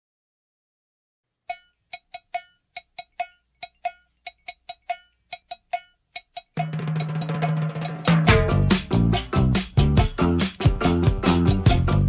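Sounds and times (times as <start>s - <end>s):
ringing percussion pattern: 1.5s - 12.0s.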